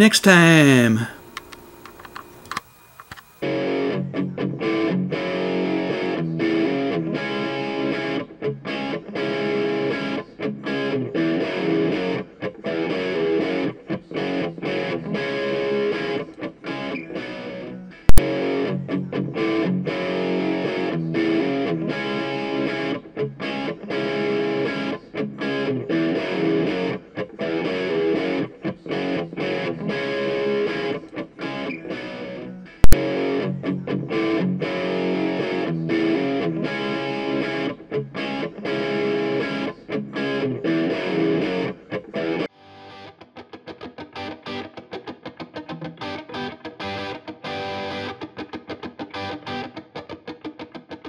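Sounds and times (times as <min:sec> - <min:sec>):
distorted electric guitar music: 0:03.4 - 0:51.0.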